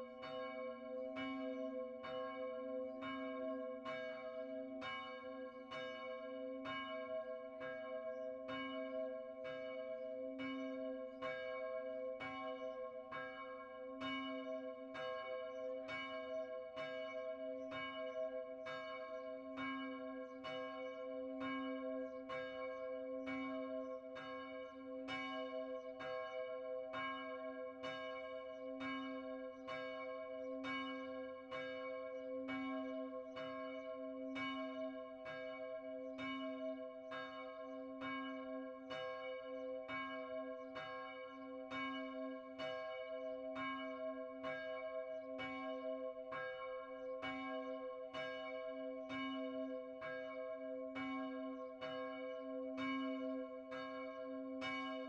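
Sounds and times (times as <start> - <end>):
church bell ringing: 0.0 - 55.0.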